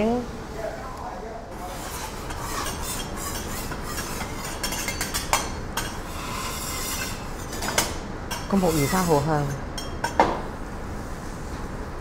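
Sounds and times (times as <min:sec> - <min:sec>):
restaurant background noise: 0:00.0 - 0:12.0.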